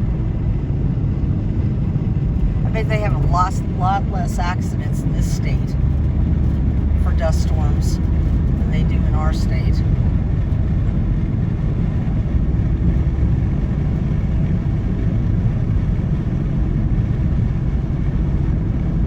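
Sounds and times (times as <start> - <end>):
car road noise from inside: 0.0 - 19.0.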